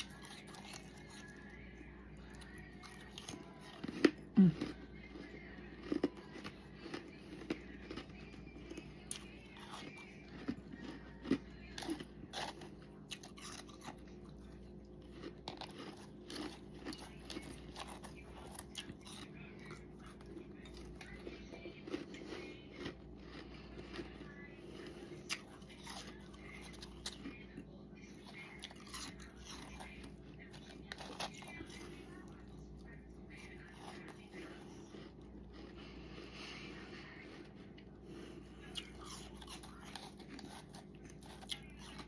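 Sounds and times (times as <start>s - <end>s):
person chewing crunchy frost: 0.0s - 42.0s.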